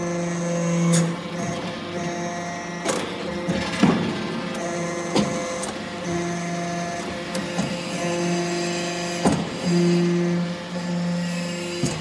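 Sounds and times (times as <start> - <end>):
hydraulic press humming: 0.0 - 12.0.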